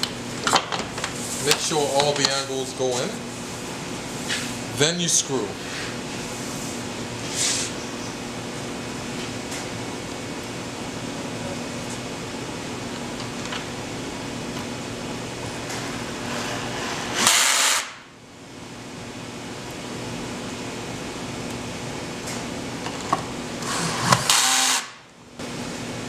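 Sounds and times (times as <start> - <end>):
fan humming: 0.0 - 26.0.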